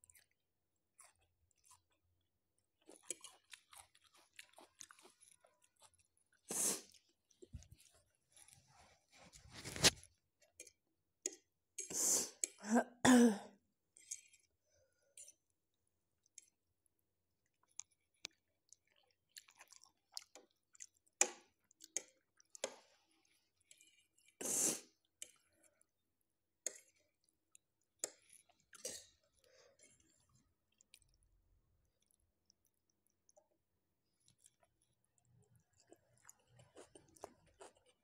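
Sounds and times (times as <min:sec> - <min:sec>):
chewing noodles: 0:00.0 - 0:12.6, 0:13.9 - 0:15.6, 0:16.2 - 0:16.7, 0:17.4 - 0:26.0, 0:26.7 - 0:38.0.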